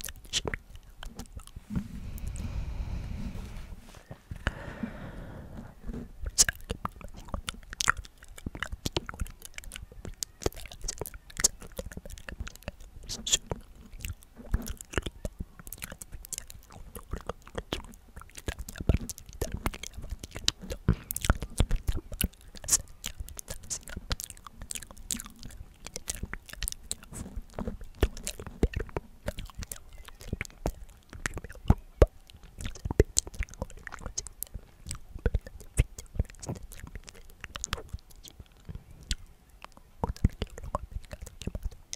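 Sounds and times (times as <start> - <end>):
wet mouth clicks and lip smacks: 0.0 - 2.9, 5.9 - 41.9
breathy whispering voice: 0.0 - 41.9.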